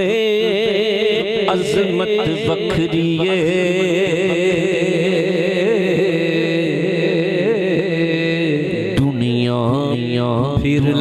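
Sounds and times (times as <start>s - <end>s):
man singing a long note: 0.0s - 11.0s.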